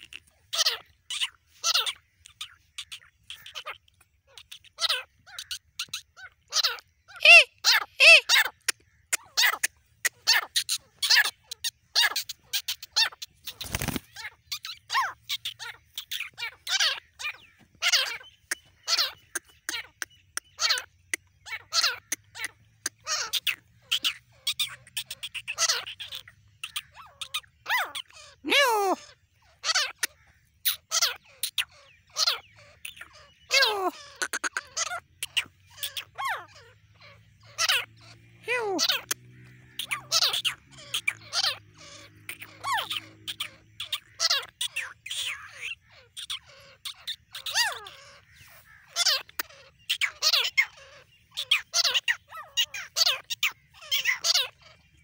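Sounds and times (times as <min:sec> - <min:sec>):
francolin calling: 0:00.0 - 0:55.0.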